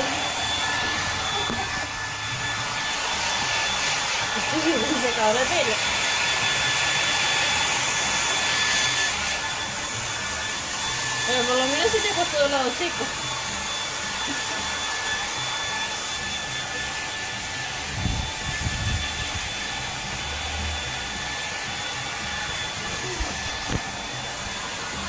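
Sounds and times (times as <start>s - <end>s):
hair dryer running: 0.0s - 25.0s.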